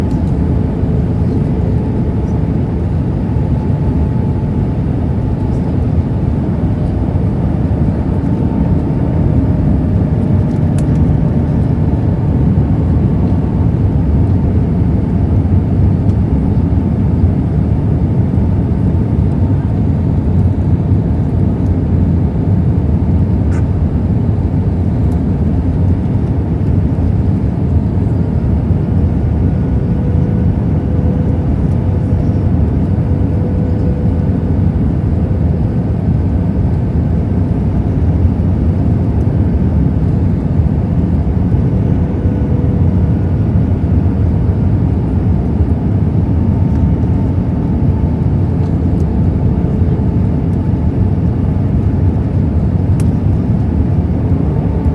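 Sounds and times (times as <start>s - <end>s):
airplane cabin noise: 0.0s - 54.9s
faint whine: 0.0s - 54.9s.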